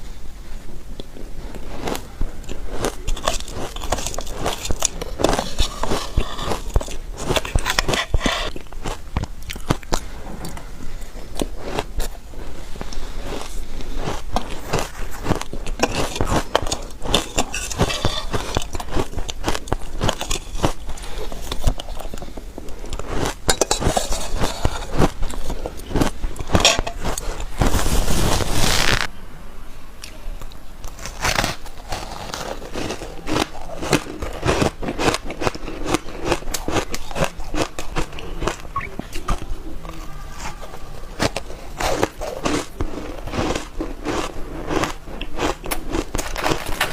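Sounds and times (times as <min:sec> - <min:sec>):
chewing shaved ice: 0:01.0 - 0:27.7, 0:30.8 - 0:46.9.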